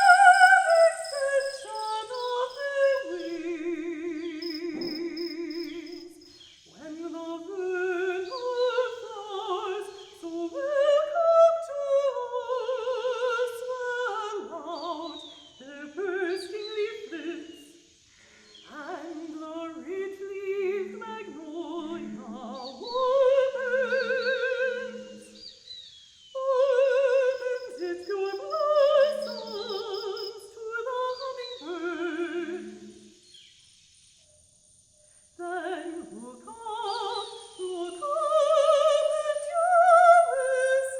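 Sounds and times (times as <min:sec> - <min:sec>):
operatic singing with vibrato: 0:00.0 - 0:17.7, 0:18.7 - 0:25.4, 0:26.4 - 0:33.0, 0:35.4 - 0:40.9.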